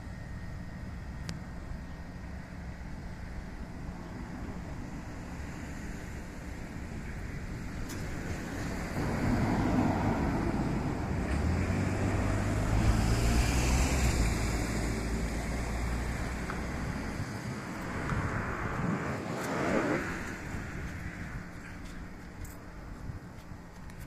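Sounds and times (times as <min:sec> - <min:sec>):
diesel railcar engine hum: 0:00.0 - 0:24.0
wheel and wind noise: 0:00.0 - 0:24.0.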